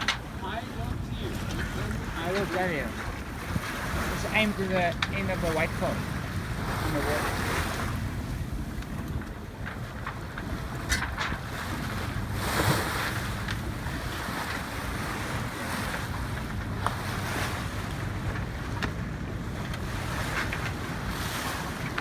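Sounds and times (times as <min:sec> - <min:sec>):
water splashing along hull: 0:00.0 - 0:22.0
wind buffeting microphone: 0:00.0 - 0:22.0.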